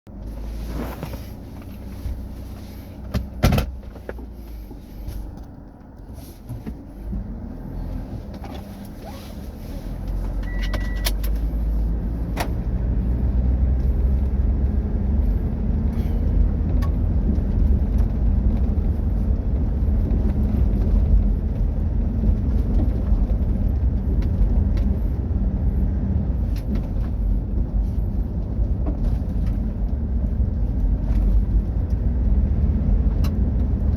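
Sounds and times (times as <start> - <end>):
truck engine and road rumble: 0.0 - 33.9.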